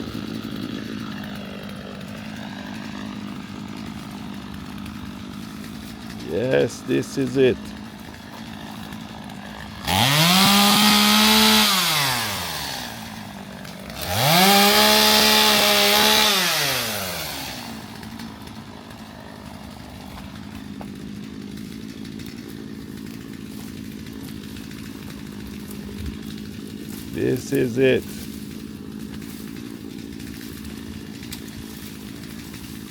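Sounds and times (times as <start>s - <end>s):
chainsaw revving and idling: 0.0s - 32.9s.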